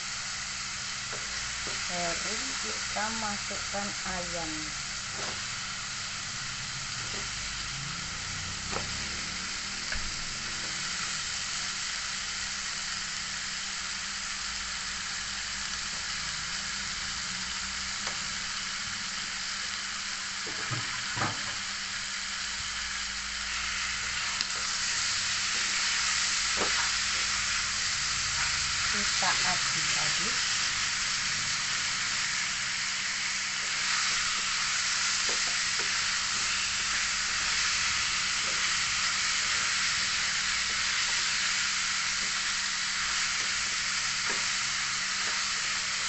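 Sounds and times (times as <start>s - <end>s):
chicken sizzling in hot oil: 0.0s - 46.0s.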